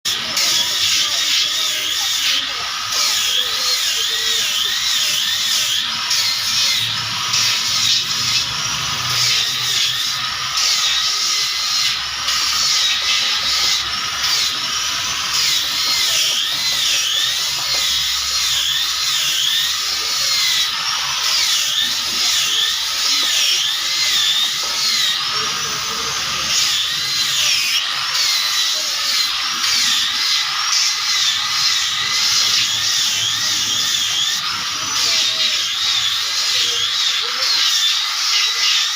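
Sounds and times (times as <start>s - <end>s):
electric power tool whining: 0.1s - 38.9s.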